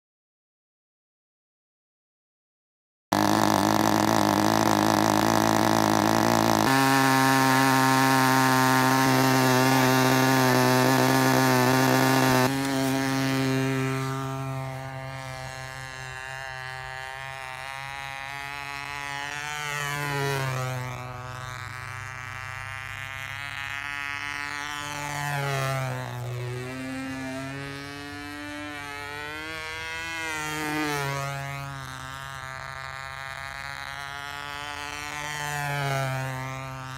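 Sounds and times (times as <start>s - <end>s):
model airplane engine: 3.1s - 36.9s.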